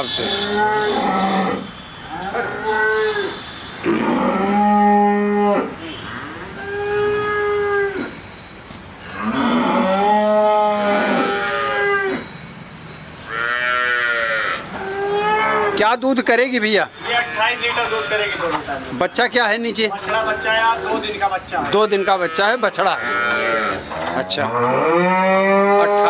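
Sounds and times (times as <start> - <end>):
cows mooing: 0.0 - 8.2, 9.0 - 12.2, 13.3 - 15.9, 17.0 - 18.6, 20.0 - 26.0.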